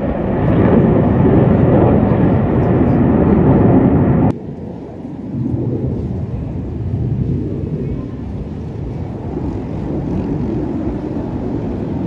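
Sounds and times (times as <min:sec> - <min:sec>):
distant jet engine rumble: 0:00.0 - 0:12.0
jets flying past: 0:00.0 - 0:12.0.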